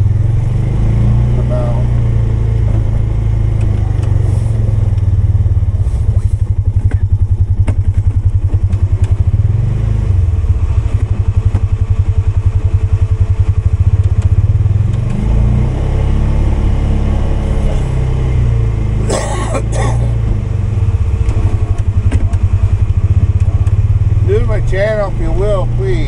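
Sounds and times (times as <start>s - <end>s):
atv engine pulsing: 0.0s - 26.0s.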